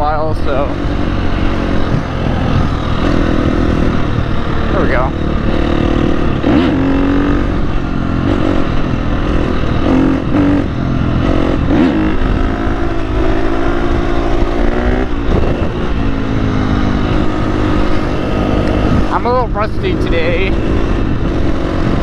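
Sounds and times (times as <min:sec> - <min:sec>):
dirt bike engine revving: 0:00.0 - 0:22.0
wind rumble: 0:00.0 - 0:22.0.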